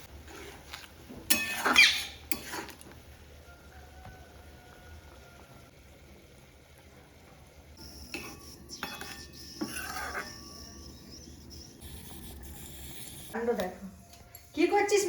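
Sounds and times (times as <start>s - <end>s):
faint sizzle: 1.6s - 15.0s.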